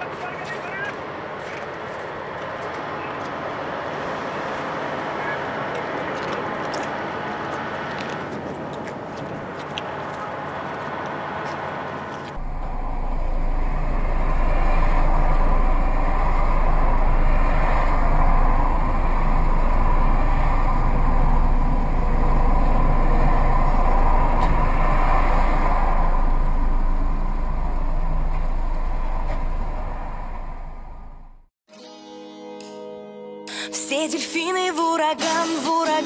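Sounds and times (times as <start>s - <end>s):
car driving at speed: 0.7s - 31.5s.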